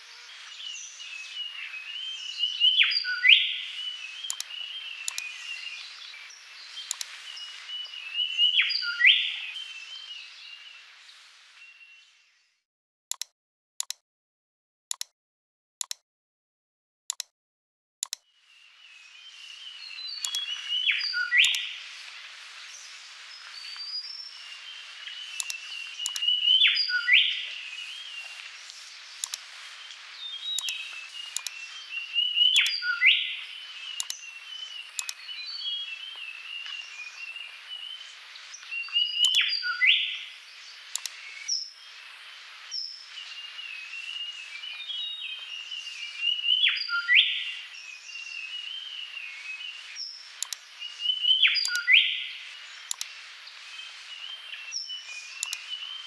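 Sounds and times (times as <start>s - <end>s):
downward-sweeping bird call: 0.0s - 12.1s, 18.6s - 56.0s
birds chirping and twittering: 0.0s - 12.6s, 18.1s - 56.0s.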